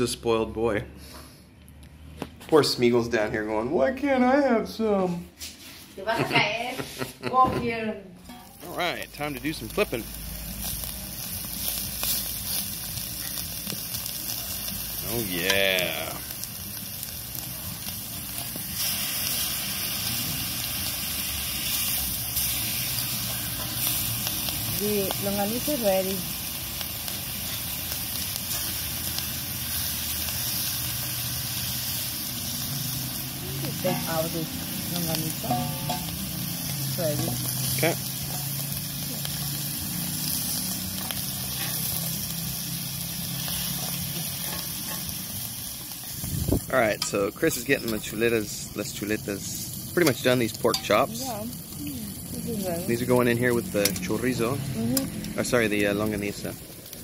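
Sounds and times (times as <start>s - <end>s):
meat sizzling on a griddle: 8.3s - 57.0s.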